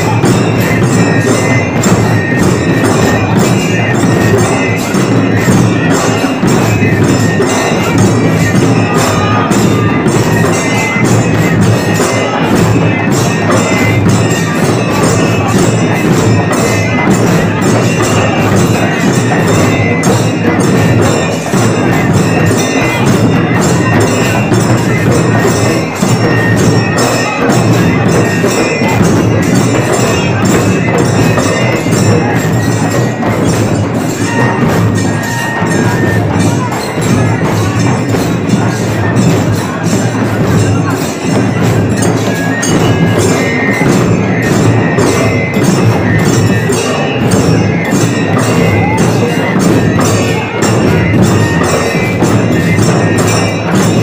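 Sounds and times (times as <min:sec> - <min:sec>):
cymbals clashing: 0:00.0 - 0:54.0
drums beaten fast: 0:00.0 - 0:54.0.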